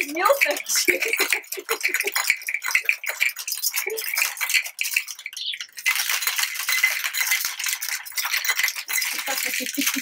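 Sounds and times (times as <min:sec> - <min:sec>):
ice rattling in cocktail shaker: 0:00.0 - 0:10.0.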